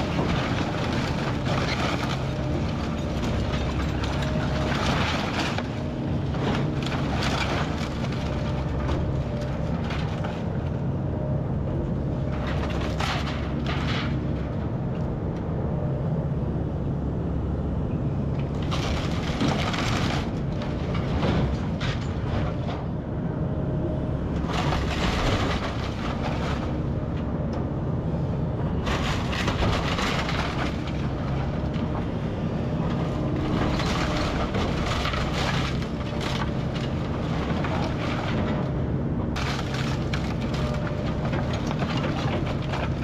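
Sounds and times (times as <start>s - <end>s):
excavator running: 0.0s - 43.0s.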